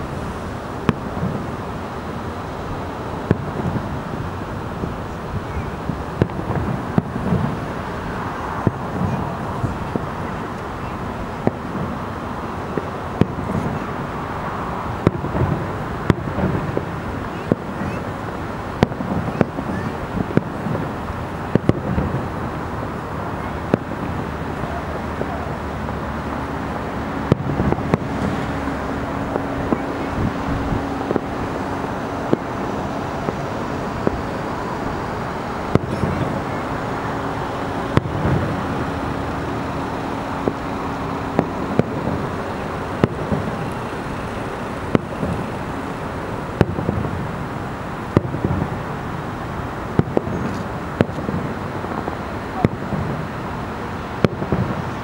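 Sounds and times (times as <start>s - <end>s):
distant fireworks bangs: 0.0s - 55.0s
steady hum: 0.0s - 55.0s
traffic noise: 0.0s - 55.0s.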